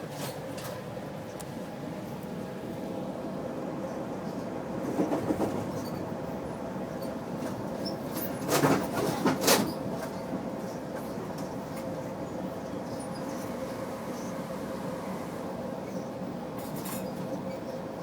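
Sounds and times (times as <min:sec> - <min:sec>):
train car interior hum: 0:00.0 - 0:18.0.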